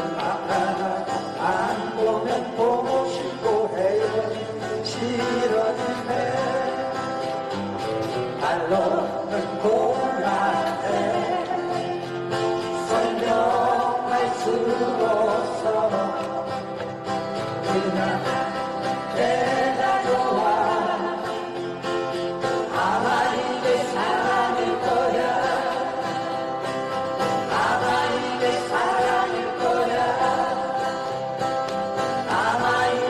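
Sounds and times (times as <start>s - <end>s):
people singing: 0.0s - 33.0s.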